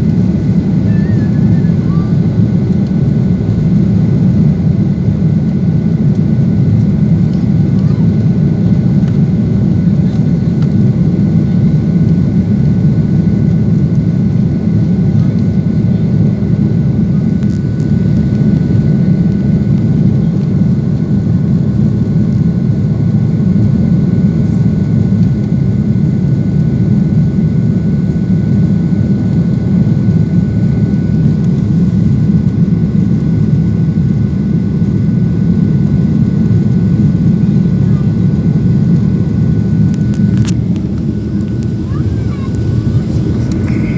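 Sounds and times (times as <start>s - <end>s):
faint steady engine whines: 0.0s - 43.9s
jet engines roaring in cabin: 0.0s - 43.9s.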